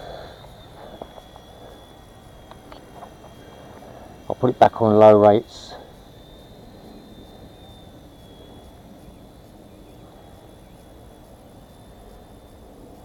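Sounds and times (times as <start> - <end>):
outdoor hiss: 0.0 - 13.0
rc helicopter motor whine: 0.0 - 13.0.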